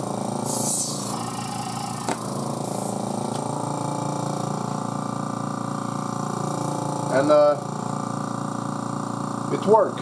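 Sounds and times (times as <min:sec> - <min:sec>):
vacuum pump running: 0:00.0 - 0:10.0.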